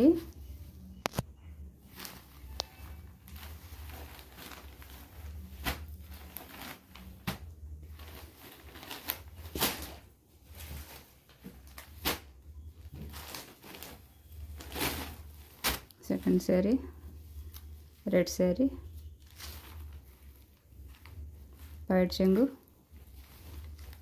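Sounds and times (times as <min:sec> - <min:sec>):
low steady hum: 0:00.0 - 0:24.0
fabric rustling: 0:01.8 - 0:18.1, 0:18.8 - 0:24.0.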